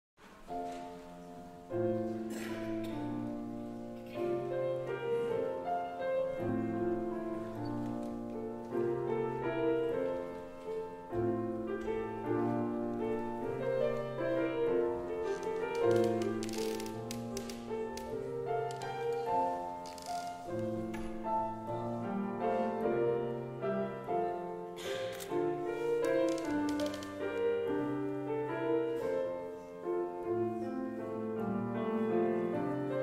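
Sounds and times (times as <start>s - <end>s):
piano accompaniment: 0.2s - 33.0s.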